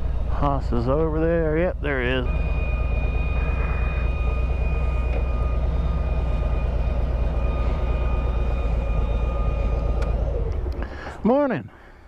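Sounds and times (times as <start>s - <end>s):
faint high whine: 0.0s - 10.4s
motorcycle engine rumbling: 0.0s - 12.0s.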